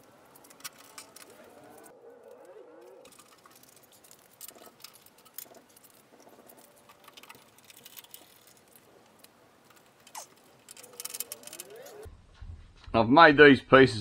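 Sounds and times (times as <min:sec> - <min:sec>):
metallic clicks and rattles: 0:00.0 - 0:12.1.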